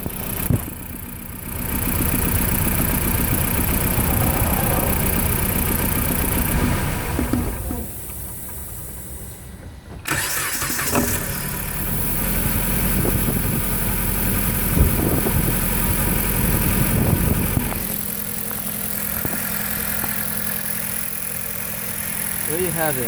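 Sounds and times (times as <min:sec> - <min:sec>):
engine idling roughly: 0:00.0 - 0:23.0
engine restarting: 0:00.0 - 0:23.0.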